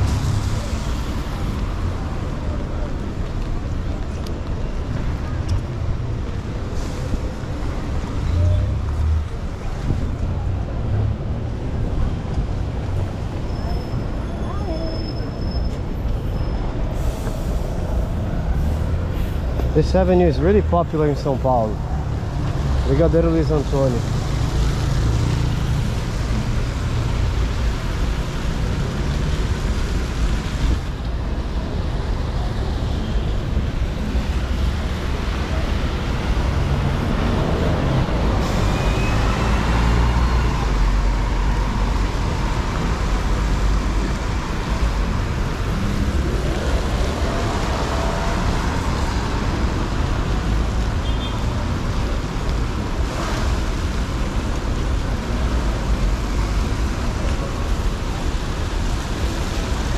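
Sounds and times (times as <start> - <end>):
car and bus engines: 0.0 - 59.9
tyres on wet pavement: 0.0 - 59.9.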